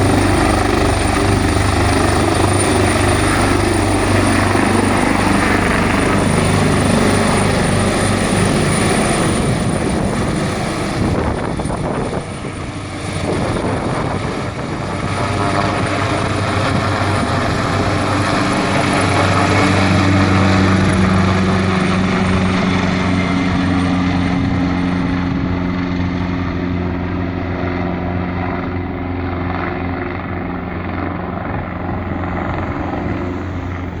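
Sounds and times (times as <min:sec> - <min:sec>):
helicopter rotor and turbines: 0:00.0 - 0:34.0
high turbine whine: 0:00.0 - 0:34.0.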